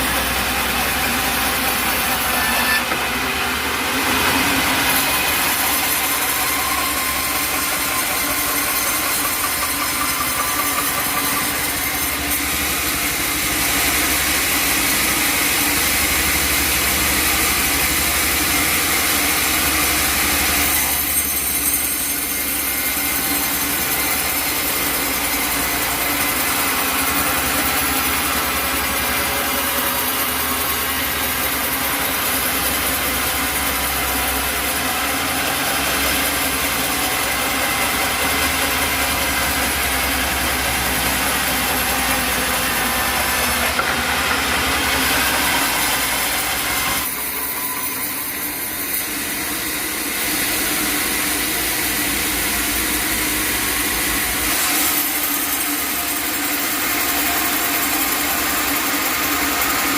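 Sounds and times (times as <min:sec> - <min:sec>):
saw cutting wood: 0:00.0 - 0:59.9
sawmill engine running: 0:00.0 - 0:59.9.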